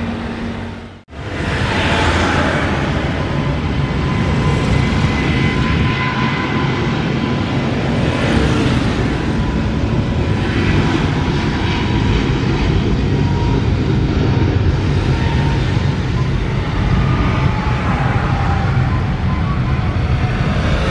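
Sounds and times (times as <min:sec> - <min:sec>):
jet engines rumbling: 0:00.0 - 0:20.9
thin steady engine whine: 0:00.0 - 0:20.9.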